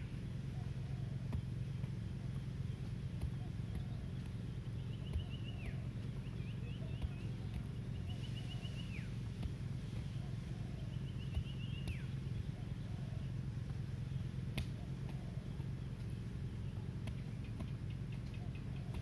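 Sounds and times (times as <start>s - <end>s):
bird trill: 2.7s - 9.3s, 10.0s - 19.0s.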